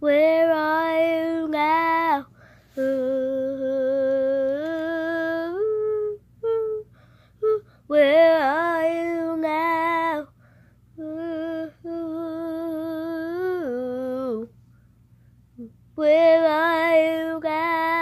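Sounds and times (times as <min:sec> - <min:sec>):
girl singing unaccompanied: 0:00.0 - 0:10.4, 0:11.0 - 0:14.6, 0:15.6 - 0:18.0.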